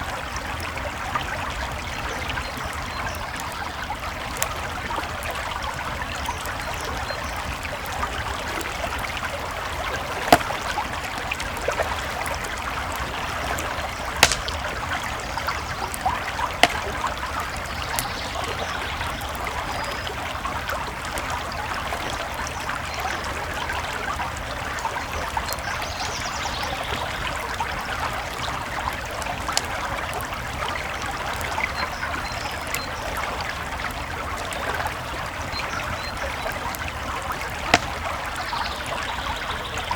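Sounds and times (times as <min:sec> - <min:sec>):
campfire crackling and popping: 0:00.0 - 0:39.9
creek flowing: 0:00.0 - 0:39.9.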